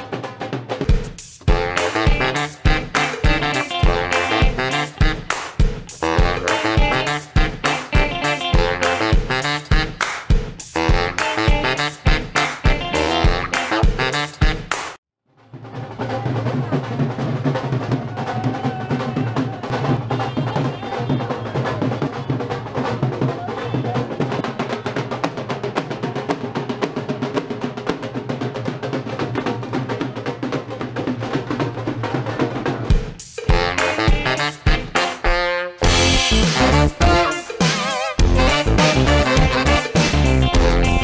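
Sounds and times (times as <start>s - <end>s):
fast drum roll: 0.0s - 14.3s, 15.5s - 35.2s, 35.8s - 41.0s.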